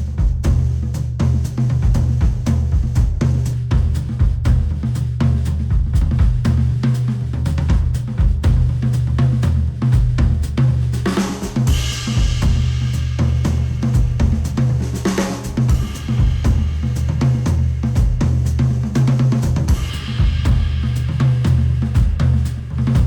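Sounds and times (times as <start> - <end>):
drum kit beat: 0.0 - 23.0
heavy bass line: 0.0 - 23.0.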